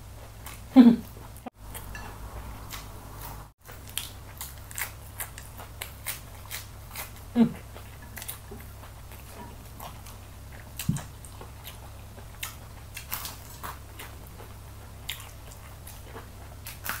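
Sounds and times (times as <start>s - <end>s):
crunchy chewing: 0.0s - 17.0s
steady low hum: 0.0s - 17.0s.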